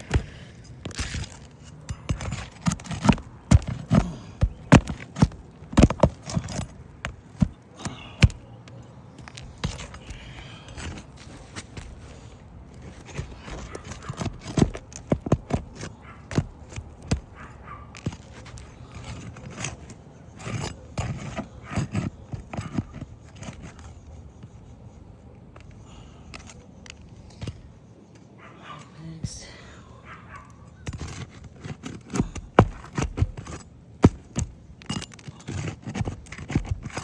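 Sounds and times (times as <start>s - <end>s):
metal tool scraping under shingles: 0.0s - 28.4s, 30.3s - 37.0s.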